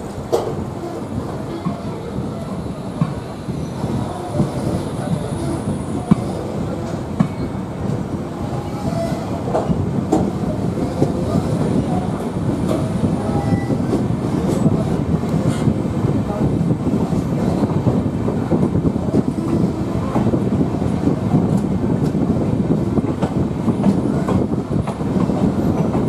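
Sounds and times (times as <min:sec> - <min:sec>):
clickety-clack over rail joints: 0:00.0 - 0:26.0
train wheels rumbling on rails: 0:00.0 - 0:26.0.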